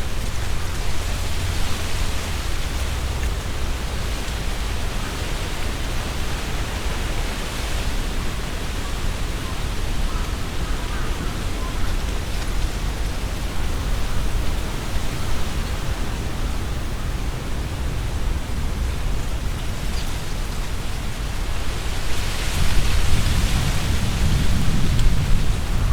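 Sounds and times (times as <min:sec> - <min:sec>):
wind buffeting microphone: 0:00.0 - 0:25.9
wind rustling tree leaves: 0:00.0 - 0:25.9.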